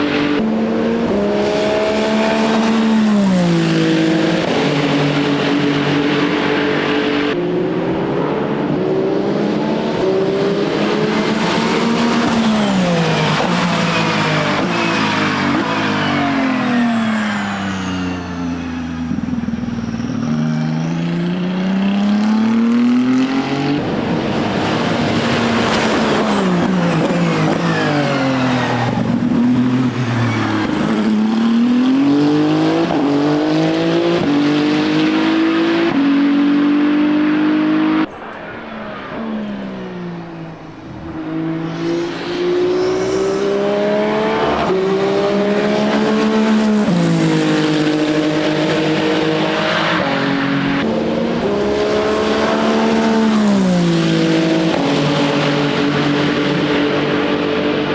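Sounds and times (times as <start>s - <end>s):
race car engine revving through gears: 0.0s - 57.9s.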